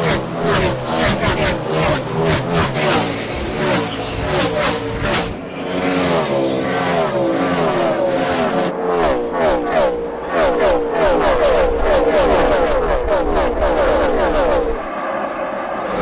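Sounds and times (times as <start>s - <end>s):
race car engines sweeping by: 0.0s - 16.0s.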